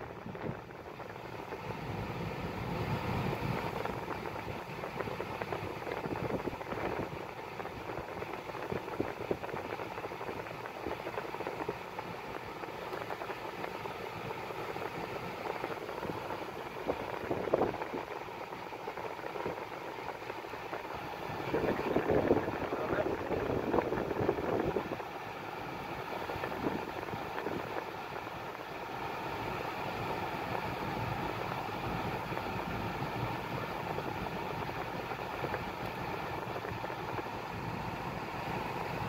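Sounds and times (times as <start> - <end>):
car engine idling: 0.0 - 39.0
ventilation air blowing hum: 0.0 - 39.0.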